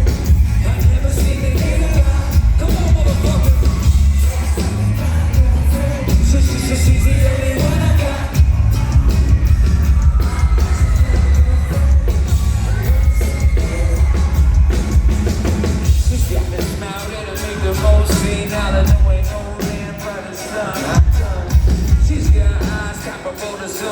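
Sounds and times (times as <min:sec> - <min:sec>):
live band playing pop-rap: 0:00.0 - 0:23.9
person singing: 0:00.0 - 0:23.9.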